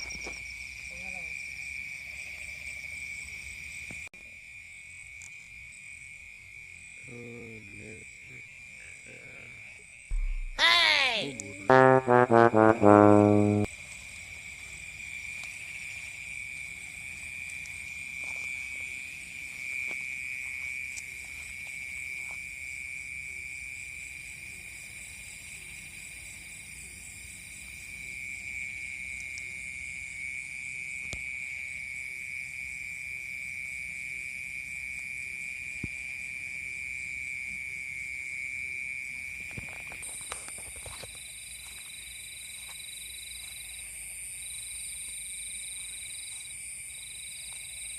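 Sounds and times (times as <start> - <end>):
frogs and insects trilling: 0.0 - 11.8, 13.7 - 47.9.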